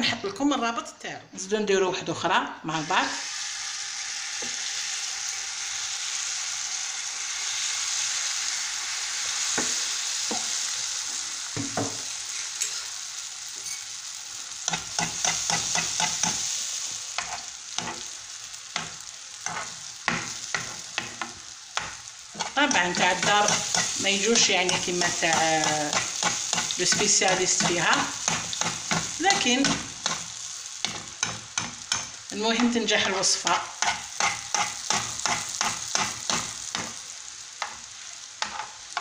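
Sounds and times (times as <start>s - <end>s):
batter sizzling in hot oil: 2.6s - 39.0s.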